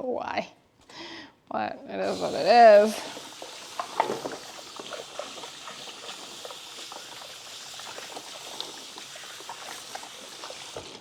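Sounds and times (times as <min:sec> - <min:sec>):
steady hiss: 0:02.0 - 0:11.0.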